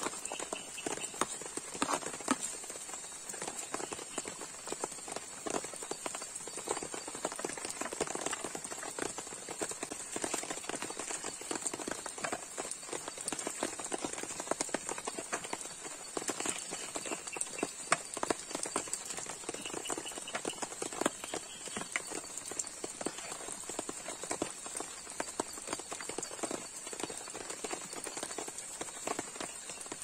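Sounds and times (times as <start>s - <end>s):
heavy rain on a tent: 0.0s - 30.0s.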